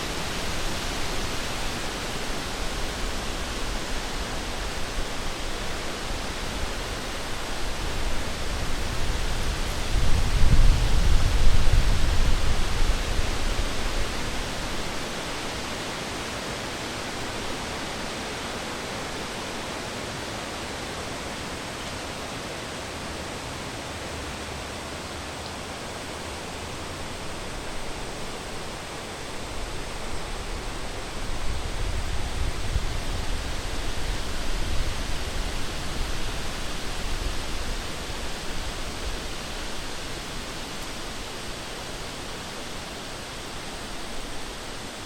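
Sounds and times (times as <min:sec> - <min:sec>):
wind rushing through forest: 0:00.0 - 0:45.0.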